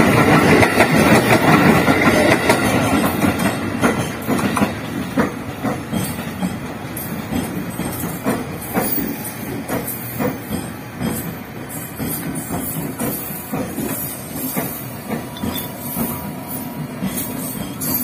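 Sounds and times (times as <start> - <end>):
train rolling hiss: 0.0 - 18.0.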